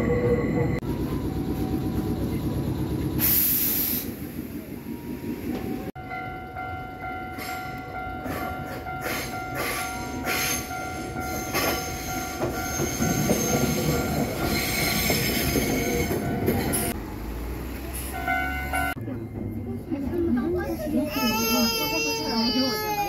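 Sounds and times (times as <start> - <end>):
train passing on rails: 0.0 - 22.1.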